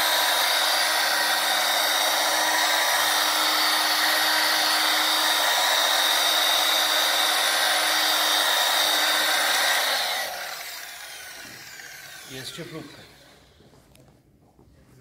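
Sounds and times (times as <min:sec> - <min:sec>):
electric polisher whining: 0:00.0 - 0:13.6.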